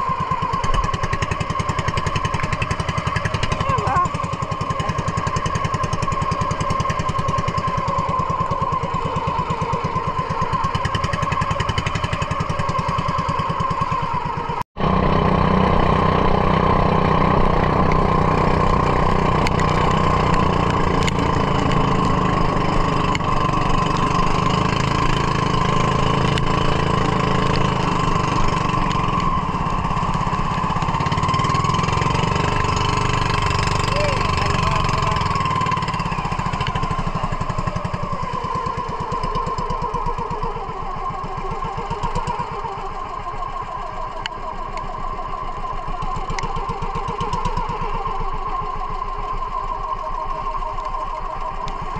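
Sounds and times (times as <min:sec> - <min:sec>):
small boat engine running: 0:00.0 - 0:51.9.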